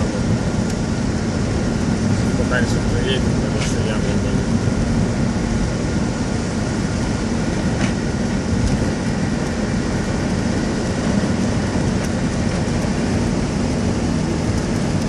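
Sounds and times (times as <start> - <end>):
car engine: 0.0 - 15.0
tyres rumbling on rough road: 0.0 - 15.0.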